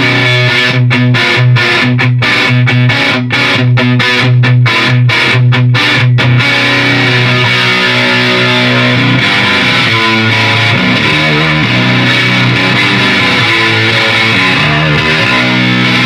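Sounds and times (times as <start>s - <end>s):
fuzz electric guitar chords: 0.0s - 16.0s.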